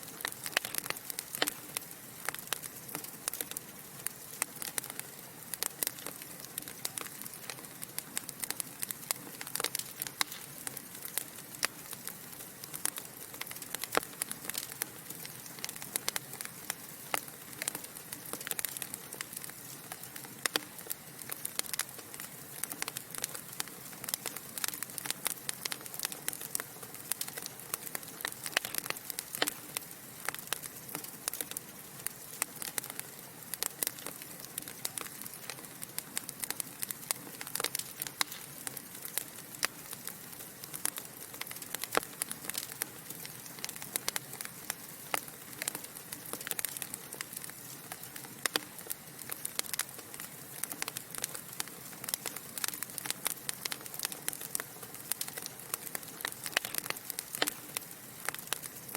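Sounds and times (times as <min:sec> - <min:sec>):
fire hissing softly: 0:00.0 - 0:58.9
logs crackling and popping: 0:00.0 - 0:58.9.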